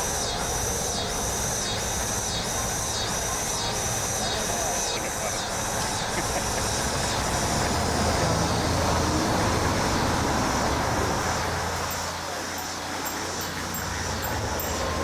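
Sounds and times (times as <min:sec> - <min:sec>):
helicopter rotor and turbine: 0:00.0 - 0:15.0.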